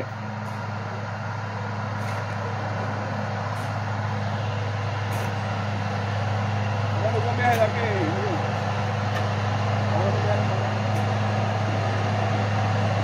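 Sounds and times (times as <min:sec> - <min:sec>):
motor grader diesel engine: 0:00.0 - 0:13.0.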